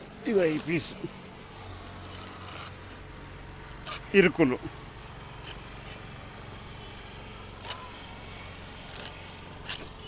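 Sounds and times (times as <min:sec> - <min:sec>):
dry palm sheath tearing: 0:00.0 - 0:06.5, 0:07.4 - 0:10.0.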